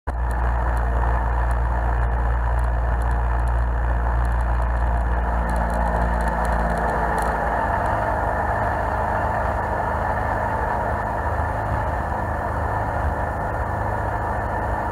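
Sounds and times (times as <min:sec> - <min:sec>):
boat engine humming: 0:00.1 - 0:14.9.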